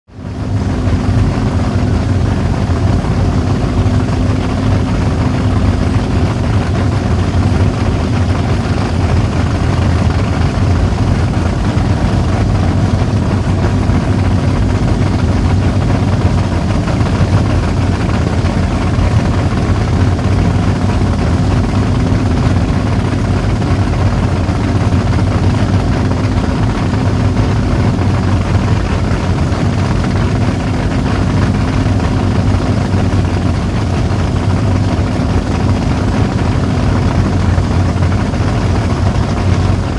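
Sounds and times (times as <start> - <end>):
boat engines idling: 0.1 - 39.9.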